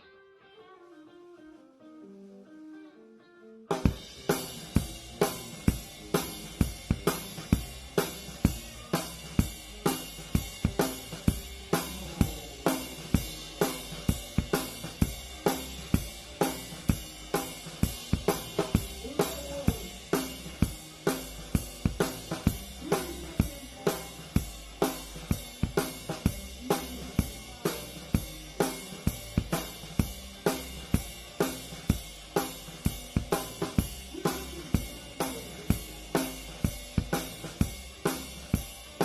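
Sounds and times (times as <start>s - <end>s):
band playing faintly: 0.0s - 39.0s
drum kit playing steady beat: 3.7s - 39.0s
snare and cymbal strikes: 3.7s - 39.0s.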